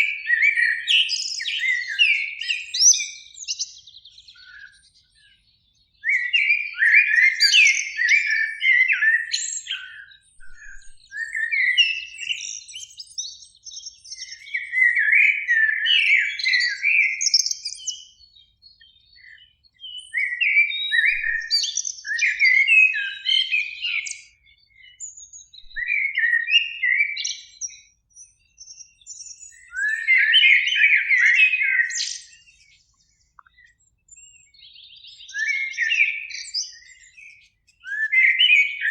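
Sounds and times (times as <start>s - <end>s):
blackbird song: 0.0s - 38.9s.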